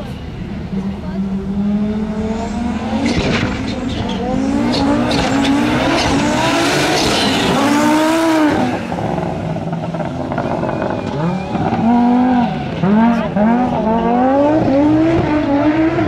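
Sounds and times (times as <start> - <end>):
rally car engine revving hard: 0.8 - 16.0.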